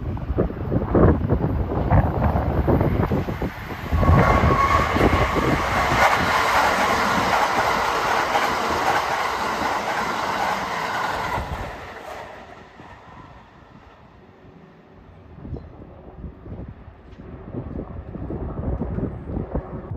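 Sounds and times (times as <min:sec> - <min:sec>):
electric train passing at speed: 0:00.0 - 0:19.9.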